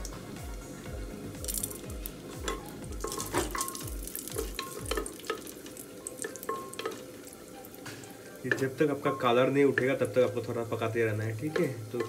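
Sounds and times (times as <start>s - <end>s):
faint sizzle: 0.0s - 12.0s.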